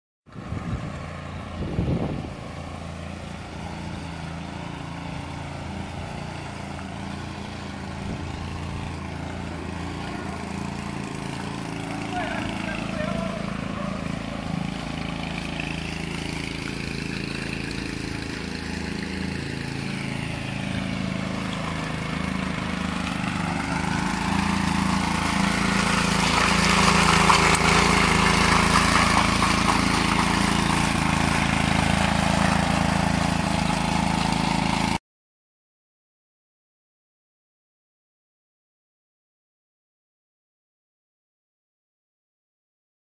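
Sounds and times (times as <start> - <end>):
power trowel engine running: 0.3 - 35.0.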